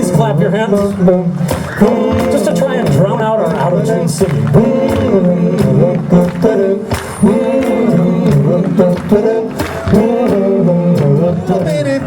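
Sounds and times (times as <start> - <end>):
drums striking: 0.0 - 12.0
rock and roll band playing: 0.0 - 12.0.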